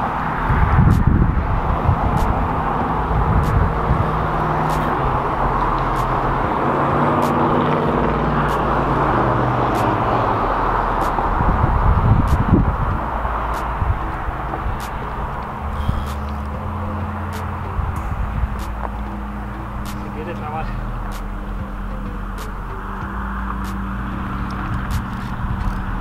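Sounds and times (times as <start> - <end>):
road traffic noise: 0.0 - 26.0
wind gusting on microphone: 0.0 - 26.0.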